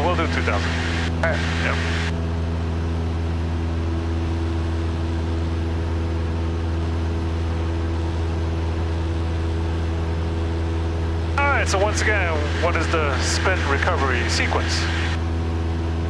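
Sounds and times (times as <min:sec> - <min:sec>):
airplane engine and propeller droning: 0:00.0 - 0:16.0.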